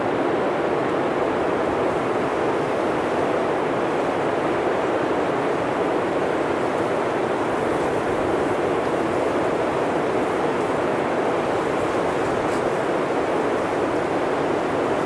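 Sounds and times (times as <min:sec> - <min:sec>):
blizzard wind through forest: 0:00.0 - 0:15.0.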